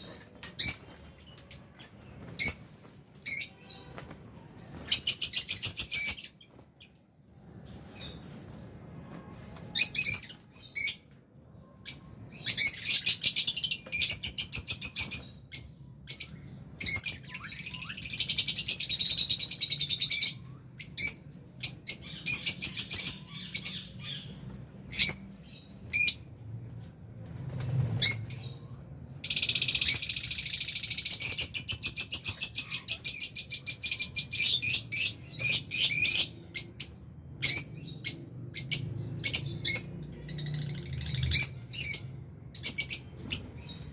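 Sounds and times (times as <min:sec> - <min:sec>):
birds chirping and calling: 0:00.0 - 0:04.0, 0:04.7 - 0:08.7, 0:09.3 - 0:26.4, 0:27.4 - 0:43.9.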